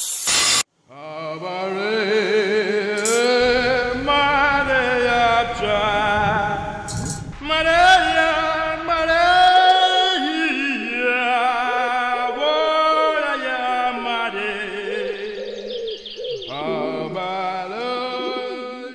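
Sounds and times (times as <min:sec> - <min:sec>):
layered voices singing: 0:01.0 - 0:15.8, 0:16.4 - 0:18.9.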